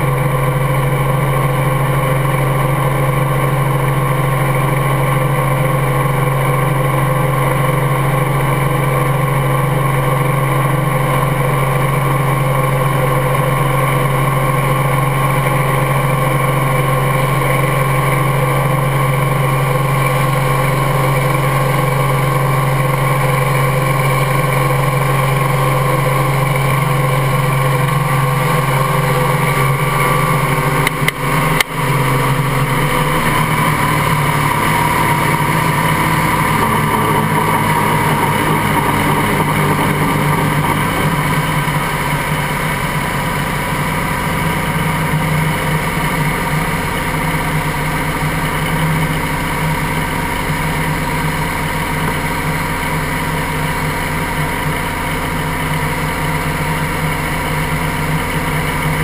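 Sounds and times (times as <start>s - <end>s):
helicopter engine and rotor running: 0.0s - 59.0s.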